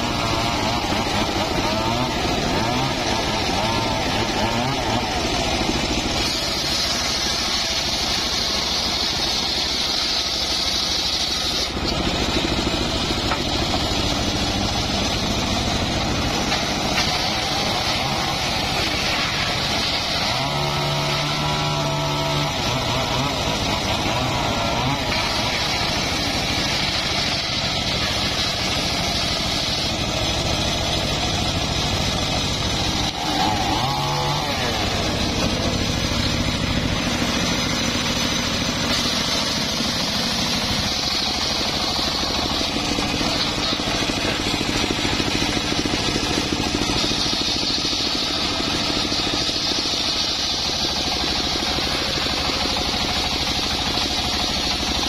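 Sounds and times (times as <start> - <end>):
chainsaw running: 0.0 - 55.0
sawmill engine and blade running: 0.0 - 55.0.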